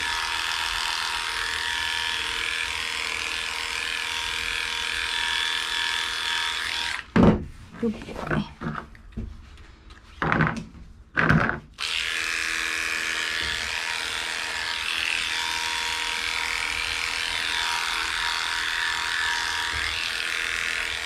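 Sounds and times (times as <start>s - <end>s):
dog clipper buzzing: 0.0s - 7.2s, 11.2s - 21.0s.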